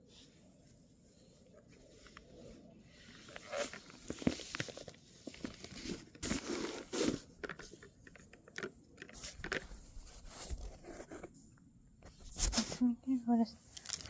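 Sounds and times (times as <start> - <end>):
rustling and crinkling handling noise: 0.0 - 14.0.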